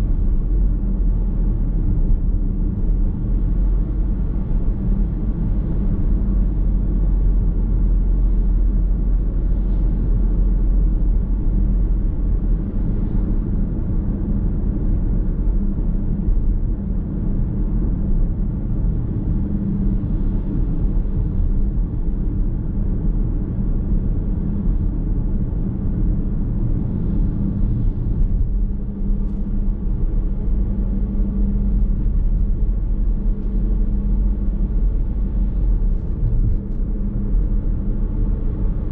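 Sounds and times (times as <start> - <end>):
road rumble and tyre noise: 0.0 - 38.9.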